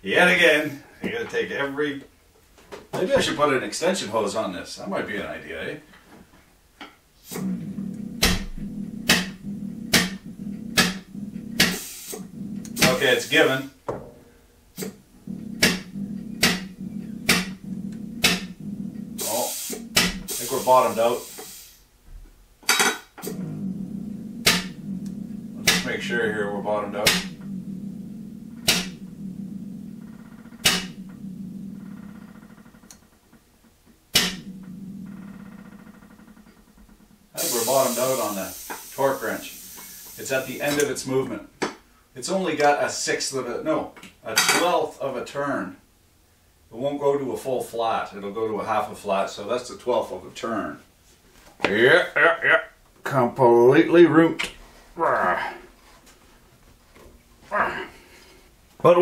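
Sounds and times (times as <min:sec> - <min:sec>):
steady low hum: 0:00.0 - 0:51.3.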